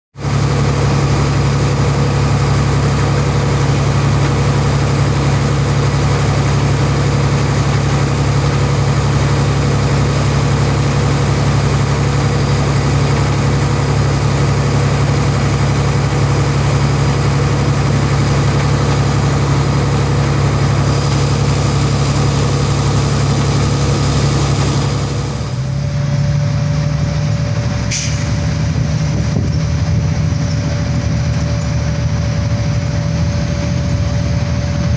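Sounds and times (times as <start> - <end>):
diesel truck engine humming: 0.2 - 34.9
steady whine: 0.2 - 34.9.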